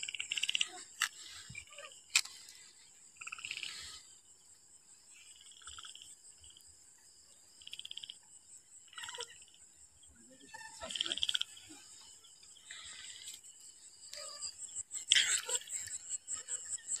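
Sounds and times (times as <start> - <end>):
frogs calling in pulsed trills: 0.0 - 17.0.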